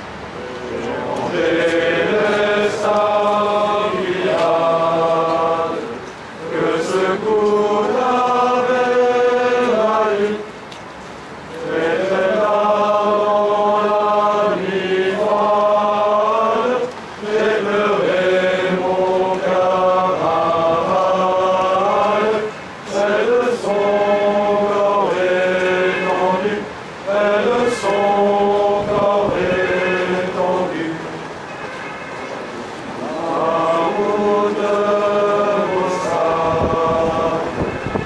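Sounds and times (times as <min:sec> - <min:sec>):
voices singing a slow chant: 0:00.6 - 0:10.7, 0:11.4 - 0:31.8, 0:32.4 - 0:38.0.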